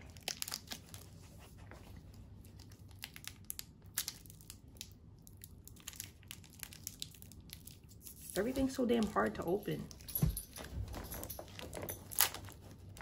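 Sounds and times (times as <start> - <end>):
plastic wrapper crinkling: 0.0 - 10.0, 11.3 - 13.0.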